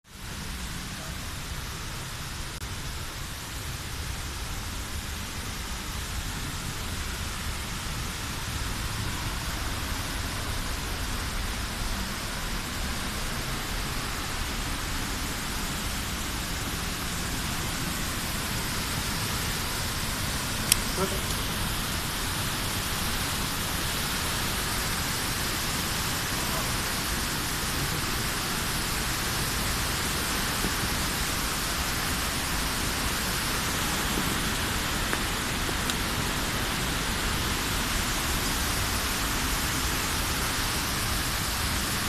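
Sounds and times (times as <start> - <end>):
rushing water: 0.1 - 42.0.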